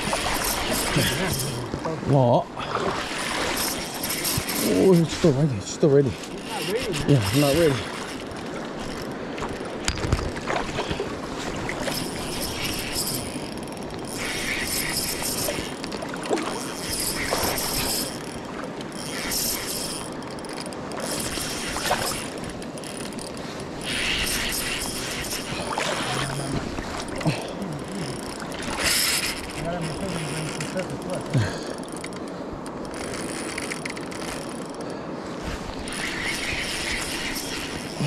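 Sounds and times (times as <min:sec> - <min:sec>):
fishing reel clicking and whirring: 0:00.0 - 0:01.7, 0:03.0 - 0:09.9, 0:11.7 - 0:34.9, 0:35.8 - 0:38.0.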